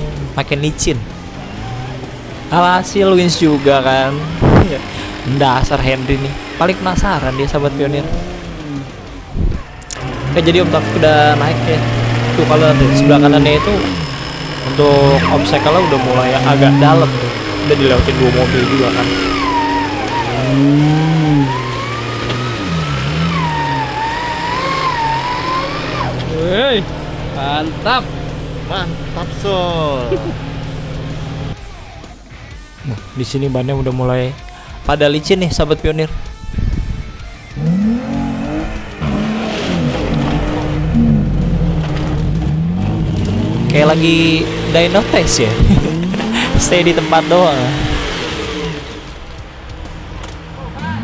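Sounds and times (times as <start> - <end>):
car engine revving: 0.0 - 32.2, 35.3 - 51.0.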